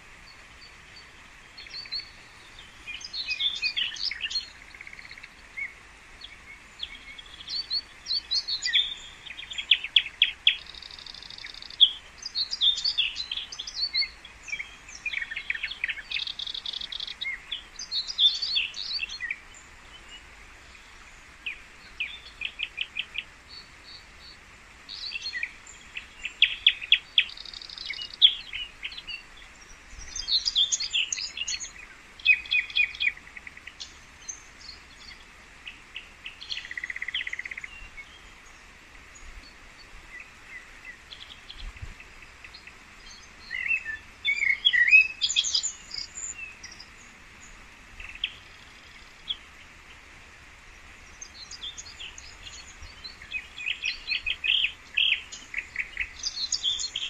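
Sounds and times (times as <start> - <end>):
faint background hiss: 0.0 - 57.0
songbirds chirping: 0.0 - 57.0.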